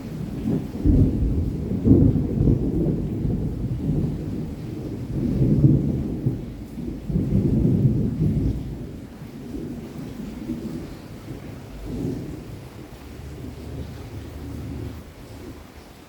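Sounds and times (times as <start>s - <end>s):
distant thunder rumbling: 0.0s - 16.0s
steady rain: 0.0s - 16.0s.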